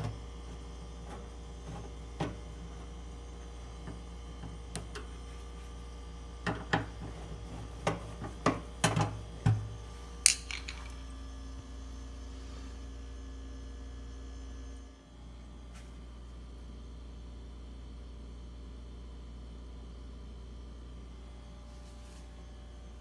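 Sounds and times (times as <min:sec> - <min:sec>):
refrigerator humming: 0:00.0 - 0:23.0.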